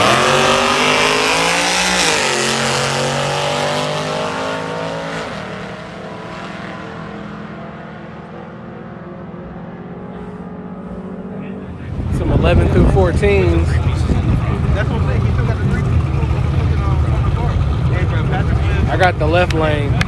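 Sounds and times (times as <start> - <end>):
drag racing car accelerating: 0.0 - 20.0.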